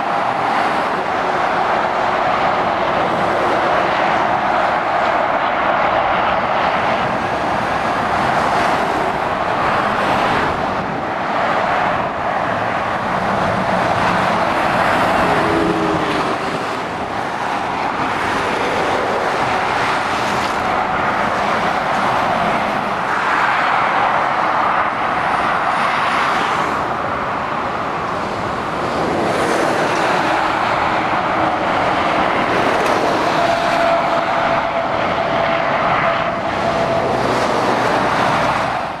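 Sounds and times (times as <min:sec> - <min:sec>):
motorway traffic passing: 0:00.0 - 0:39.0.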